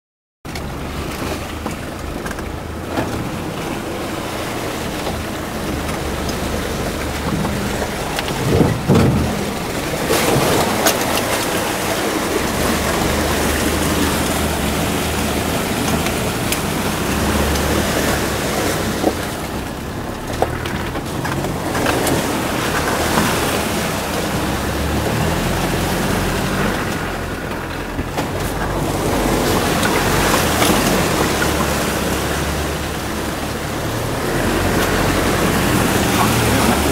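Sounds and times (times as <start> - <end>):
car engine running: 0.4 - 36.9
steady rushing noise: 0.5 - 36.9.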